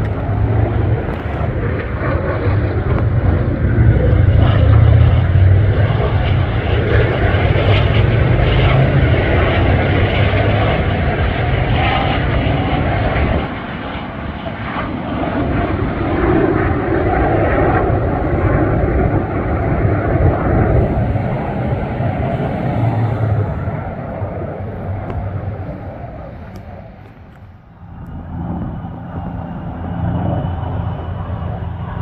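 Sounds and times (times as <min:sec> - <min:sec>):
small airplane engine droning: 0:00.0 - 0:32.0.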